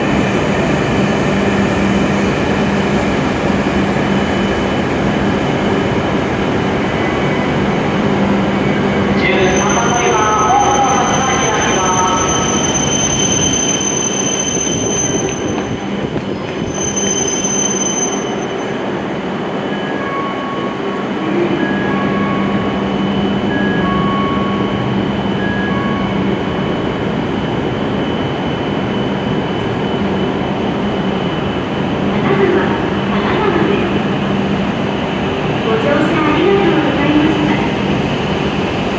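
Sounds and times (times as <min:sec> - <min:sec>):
train rumbling with high whines: 0:00.0 - 0:38.9.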